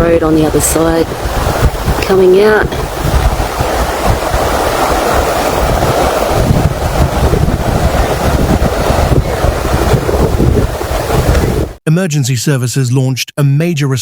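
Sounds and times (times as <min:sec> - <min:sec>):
floodwater rushing: 0:00.0 - 0:11.8
wind buffeting microphone: 0:00.0 - 0:11.8.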